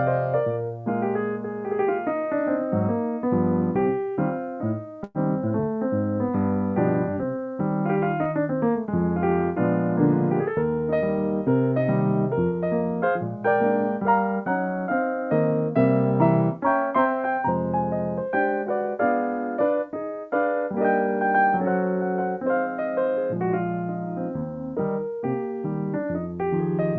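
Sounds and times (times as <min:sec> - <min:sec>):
solo piano playing: 0:00.0 - 0:26.9.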